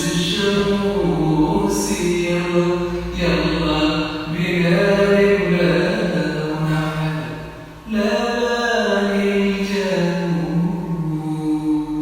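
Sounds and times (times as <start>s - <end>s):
man singing long notes: 0.0s - 12.0s.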